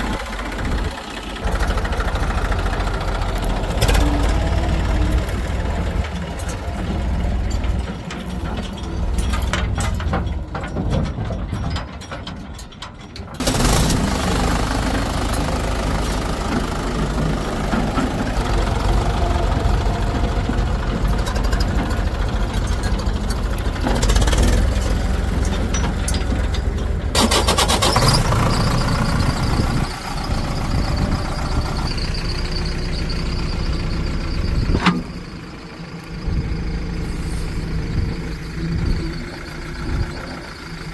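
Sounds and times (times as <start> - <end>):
diesel engines under load: 0.0 - 40.9.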